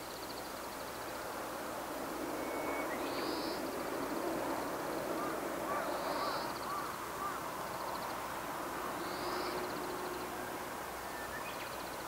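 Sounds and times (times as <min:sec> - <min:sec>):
distant rushing: 0:01.1 - 0:11.2.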